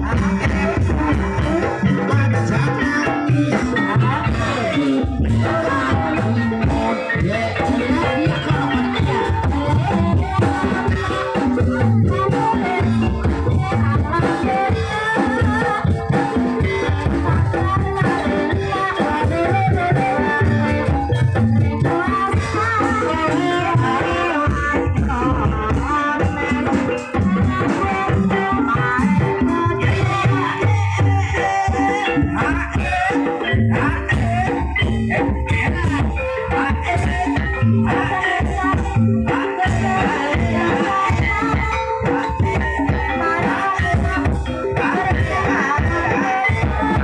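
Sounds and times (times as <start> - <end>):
live band music: 0.0 - 47.0
person singing wavering voice: 0.0 - 47.0
steady drumming: 0.0 - 47.0.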